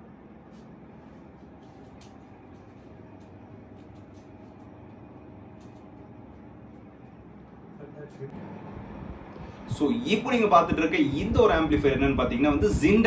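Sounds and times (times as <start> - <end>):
faint hum: 0.0 - 13.0
low room rumble: 0.0 - 13.0.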